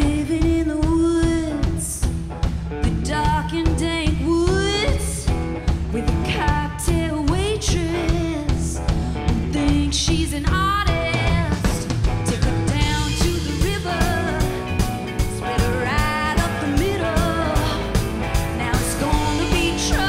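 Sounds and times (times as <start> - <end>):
bass guitar: 0.0 - 20.0
drum kit beat: 0.0 - 20.0
electric guitars: 0.0 - 20.0
woman singing lead: 0.0 - 20.0.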